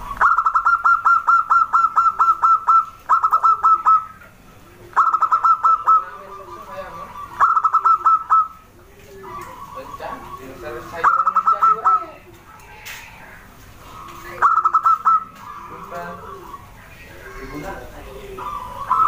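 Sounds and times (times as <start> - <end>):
dove calling in clipped notes: 0.0 - 19.0
low cooing notes: 0.0 - 19.0.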